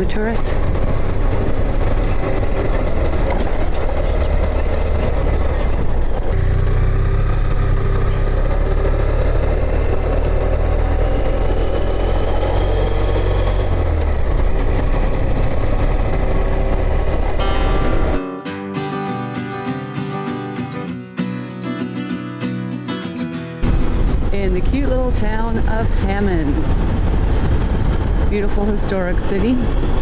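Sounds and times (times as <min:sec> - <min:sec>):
motorcycle engine running: 0:00.0 - 0:18.2, 0:23.6 - 0:30.0
road and wind noise: 0:00.0 - 0:18.2, 0:23.6 - 0:30.0.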